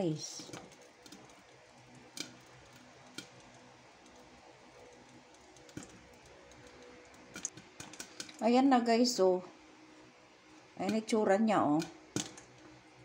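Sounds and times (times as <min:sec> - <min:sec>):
popcorn popping in covered pot: 0:00.0 - 0:08.6, 0:10.7 - 0:13.0
faint steady background noise: 0:00.0 - 0:13.0.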